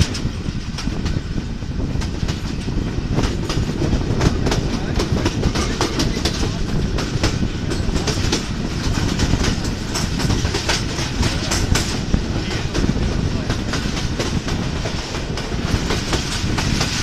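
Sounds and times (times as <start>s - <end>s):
train running rumble: 0.0s - 17.0s
wheels clattering on rails: 0.0s - 17.0s.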